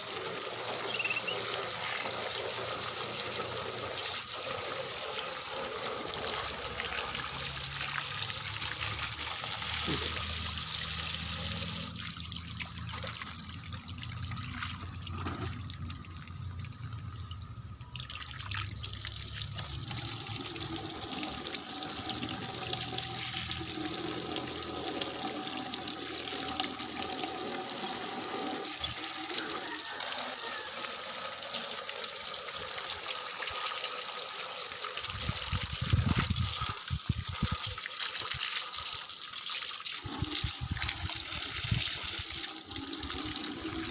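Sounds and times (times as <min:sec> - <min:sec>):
water running and splashing: 0:00.0 - 0:43.9.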